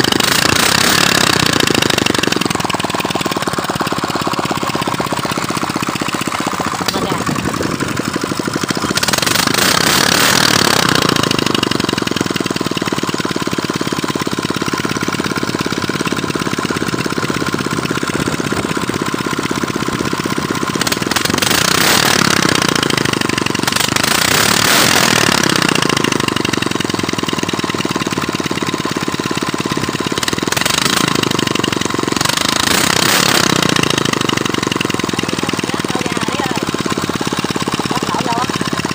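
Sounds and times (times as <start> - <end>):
four-stroke engine revving: 0.0 - 38.9.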